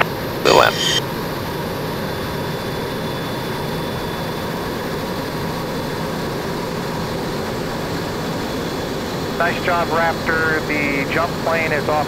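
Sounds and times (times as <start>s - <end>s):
jet cockpit engine and airflow noise: 0.0s - 12.0s.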